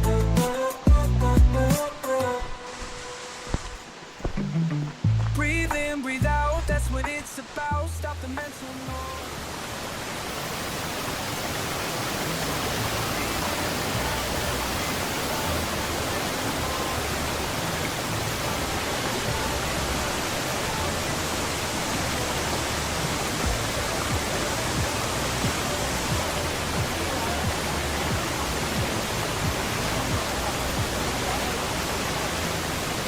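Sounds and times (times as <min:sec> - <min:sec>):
background music: 0:00.0 - 0:09.6, 0:12.2 - 0:33.0.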